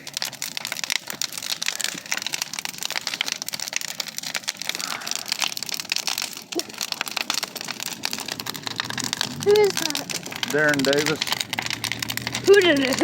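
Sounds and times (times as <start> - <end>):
bonfire crackling: 0.0 - 13.0.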